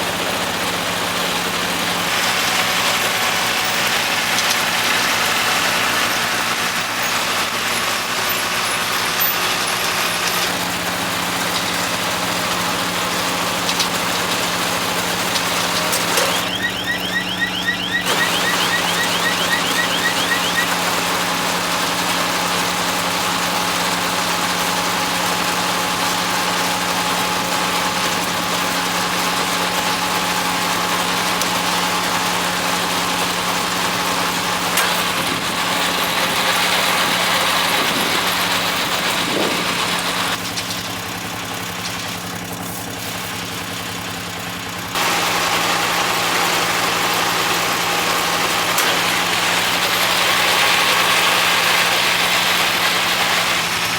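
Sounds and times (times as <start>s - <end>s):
diesel tractor running: 0.0s - 53.9s
hay baler: 0.0s - 53.9s.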